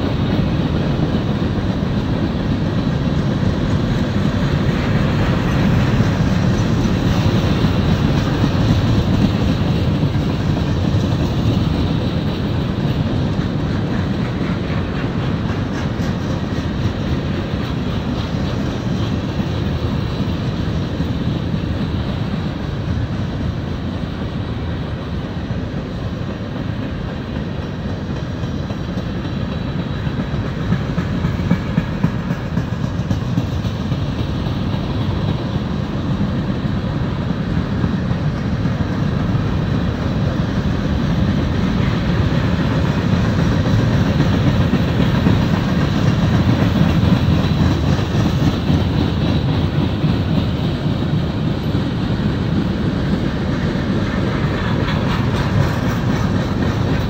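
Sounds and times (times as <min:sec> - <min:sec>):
freight train wheels rumbling: 0:00.0 - 0:57.0
train wheels clacking: 0:00.0 - 0:57.0.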